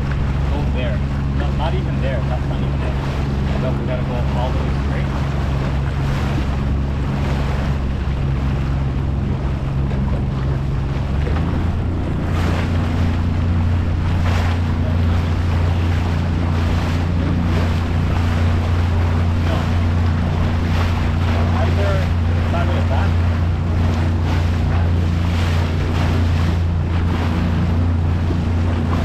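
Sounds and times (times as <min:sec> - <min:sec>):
motorboat engine running: 0:00.0 - 0:29.0
water washing against hull: 0:00.0 - 0:29.0.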